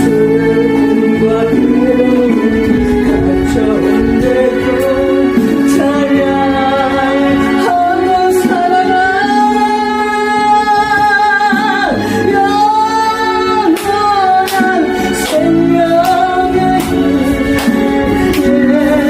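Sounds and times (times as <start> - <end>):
instrumental accompaniment: 0.0 - 19.0
woman singing a hymn: 0.0 - 19.0.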